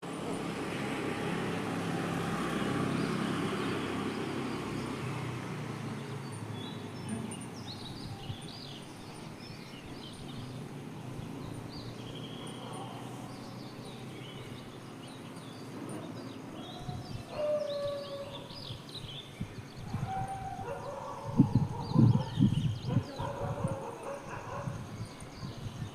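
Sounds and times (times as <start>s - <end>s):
birds chirping: 1.2s - 25.9s.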